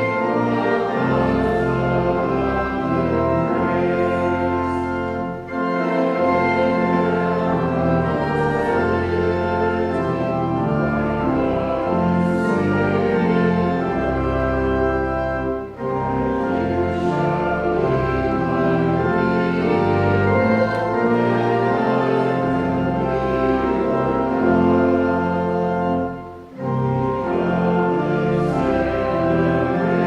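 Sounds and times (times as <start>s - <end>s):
organ-like held chords: 0.0s - 30.0s.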